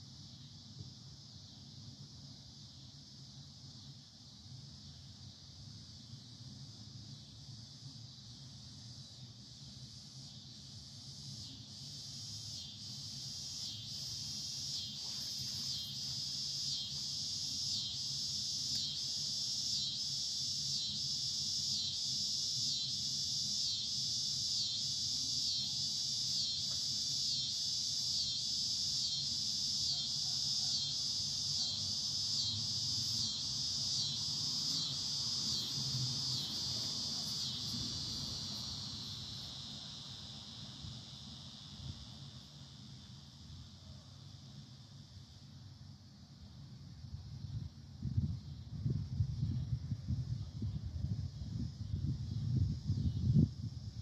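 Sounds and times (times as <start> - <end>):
high pulsing insect buzz: 0.0 - 54.0.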